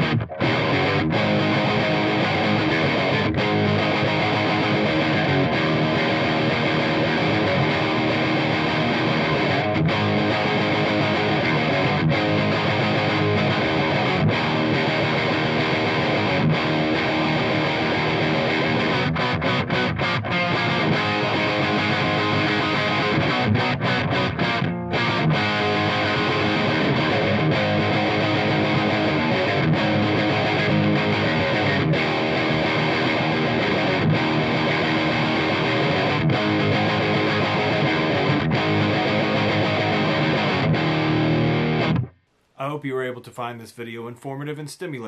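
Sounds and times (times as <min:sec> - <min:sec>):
distorted electric guitar riffing: 0:00.0 - 0:42.2.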